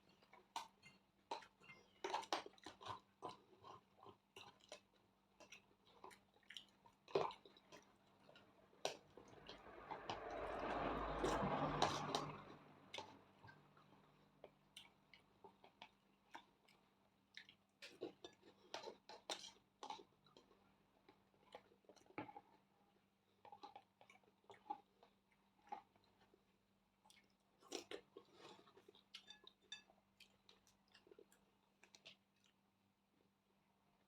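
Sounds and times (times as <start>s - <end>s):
person chewing: 0.0s - 22.6s, 23.4s - 32.6s.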